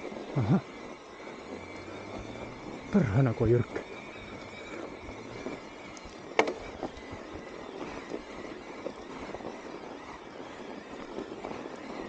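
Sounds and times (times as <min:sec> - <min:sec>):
bike rattling: 0:00.0 - 0:12.0
bike tyres hissing on snow: 0:00.0 - 0:12.0.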